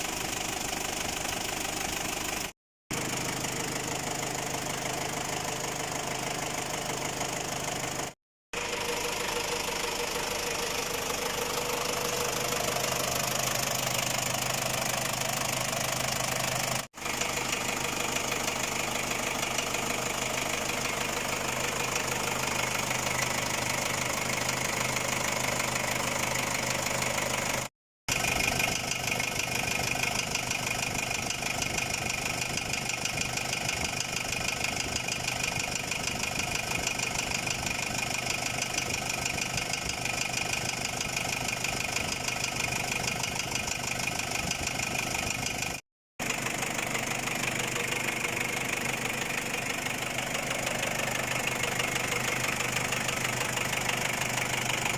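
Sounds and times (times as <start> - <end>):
diesel engine knocking: 0.0 - 54.9.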